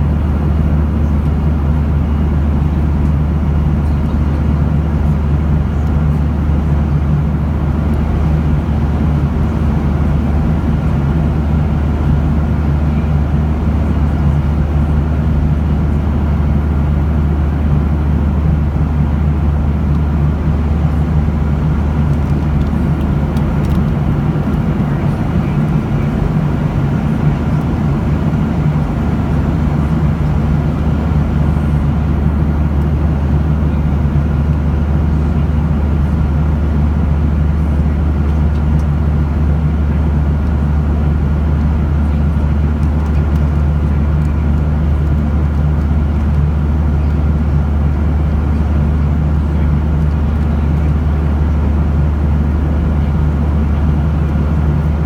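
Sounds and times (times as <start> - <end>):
jet engine cabin drone: 0.0 - 55.0.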